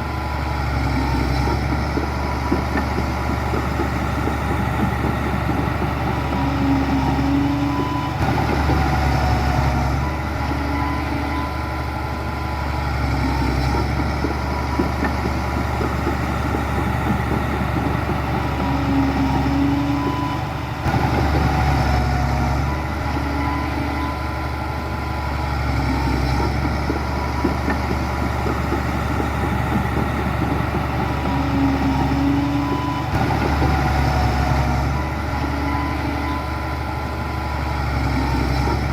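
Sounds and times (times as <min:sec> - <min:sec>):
heavy diesel machinery engines running: 0:00.0 - 0:38.9.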